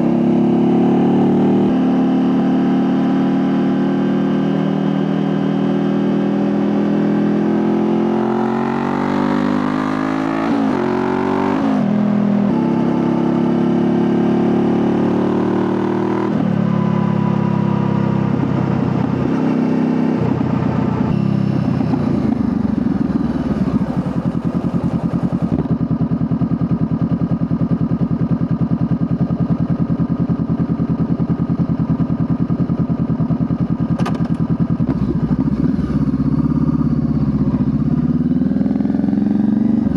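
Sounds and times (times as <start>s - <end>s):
motorcycle engine revving: 0.0s - 28.2s, 28.8s - 39.9s.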